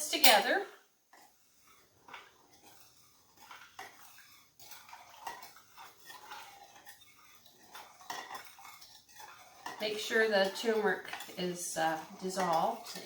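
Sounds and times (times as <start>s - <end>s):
spoon scraping container: 1.2s - 13.0s.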